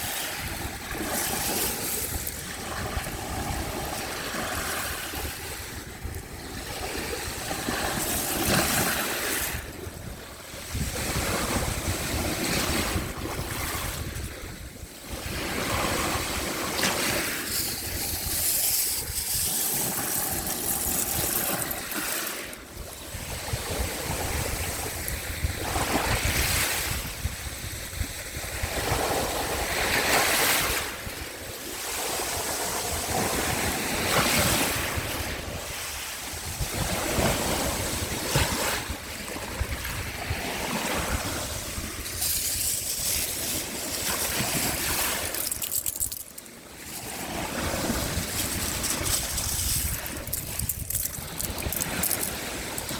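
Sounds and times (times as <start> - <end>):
wind rumbling on microphone: 0.0 - 45.5, 46.3 - 52.9
small waves washing ashore: 0.0 - 52.9.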